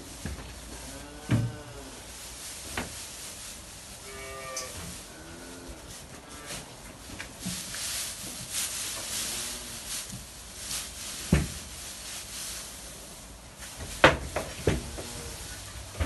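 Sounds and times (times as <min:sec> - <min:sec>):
dry straw rustling: 0:00.0 - 0:16.0.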